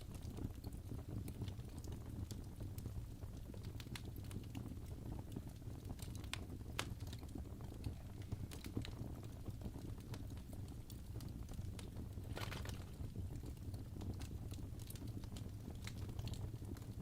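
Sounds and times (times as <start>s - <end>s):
sharp snaps and pops of fire: 0.0s - 17.0s
wood fire crackling: 0.0s - 17.0s.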